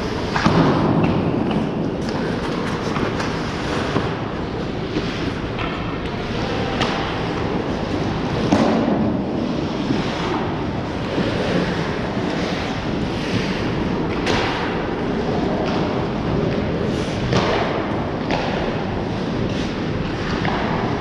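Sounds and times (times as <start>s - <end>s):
hockey sticks and puck clacking: 0.0s - 21.0s
skates scraping ice: 0.0s - 21.0s.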